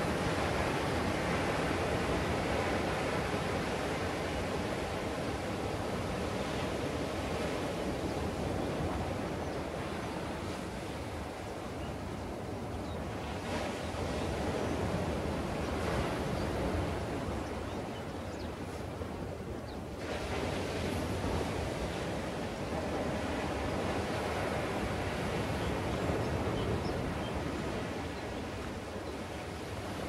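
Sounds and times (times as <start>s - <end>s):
ocean surf breaking: 0.0s - 17.9s, 18.5s - 30.0s.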